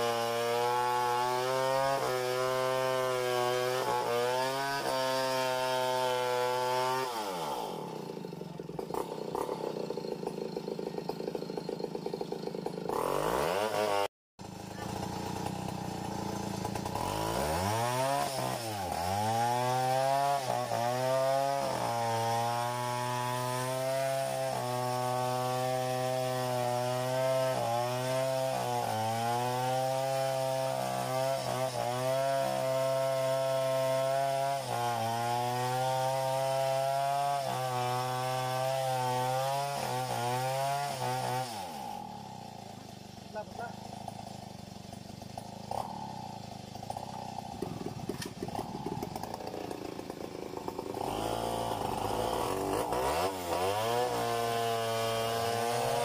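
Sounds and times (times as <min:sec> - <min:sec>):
chainsaw engine cutting at high revs: 0:00.0 - 0:56.0.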